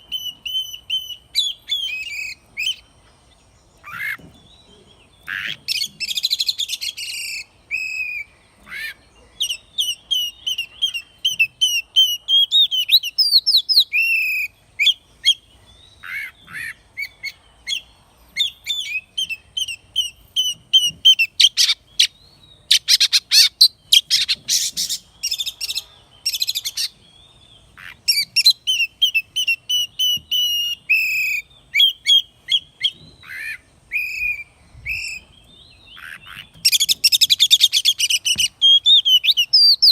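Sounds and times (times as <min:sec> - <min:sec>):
bird singing whistled notes: 0:00.0 - 0:03.0, 0:03.8 - 0:08.4, 0:09.3 - 0:39.9.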